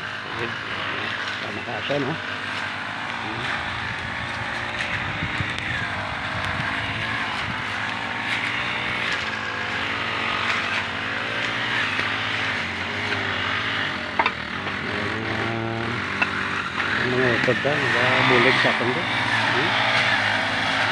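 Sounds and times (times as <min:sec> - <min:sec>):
engine running: 0:00.0 - 0:20.9.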